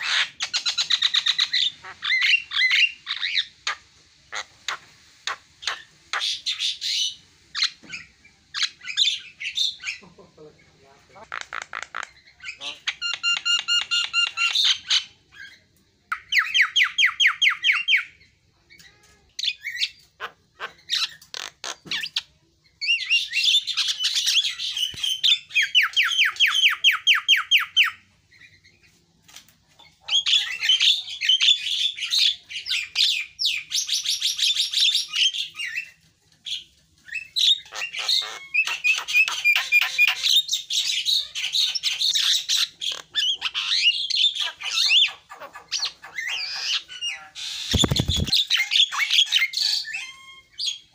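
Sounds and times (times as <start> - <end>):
bird chattering song: 0.0 - 29.0, 29.8 - 50.9.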